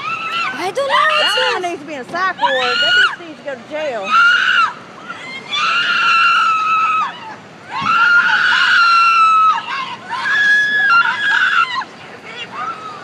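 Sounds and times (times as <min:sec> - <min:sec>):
woman screaming: 0:00.0 - 0:01.6, 0:02.4 - 0:03.3, 0:04.0 - 0:13.0.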